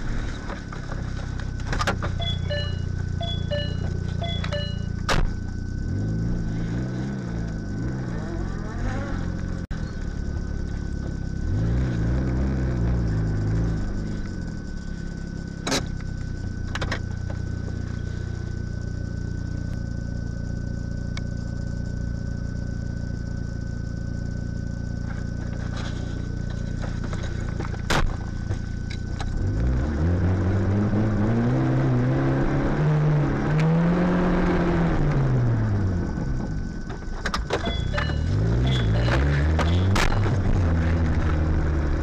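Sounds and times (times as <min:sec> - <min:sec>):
car engine idling and accelerating: 0:00.0 - 0:42.0.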